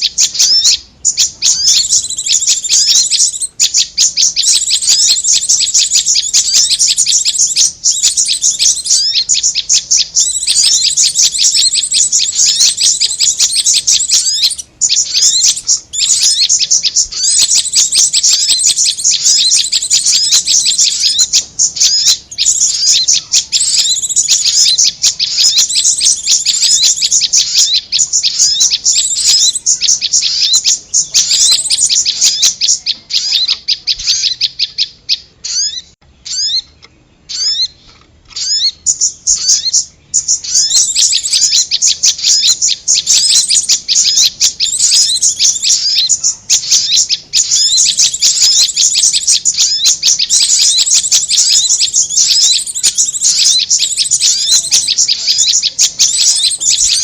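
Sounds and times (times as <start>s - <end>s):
fast high bird chirps: 0.0s - 57.0s.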